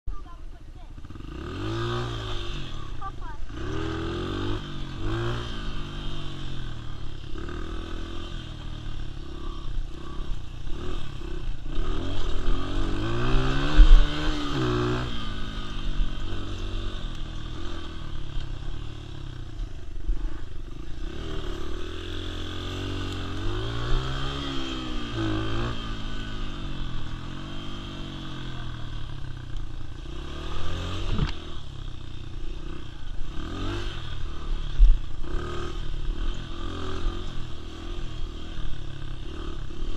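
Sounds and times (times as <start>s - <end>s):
dirt bike engine revving: 0.9s - 39.9s.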